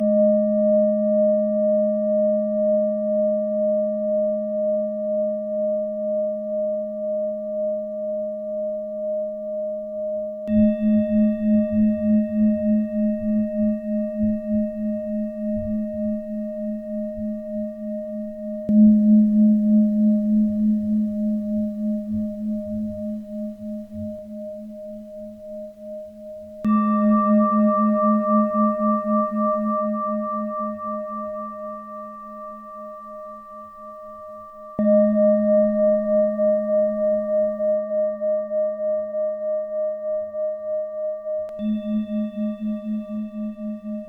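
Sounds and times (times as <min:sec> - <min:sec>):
singing bowl tone: 0:00.0 - 0:44.0.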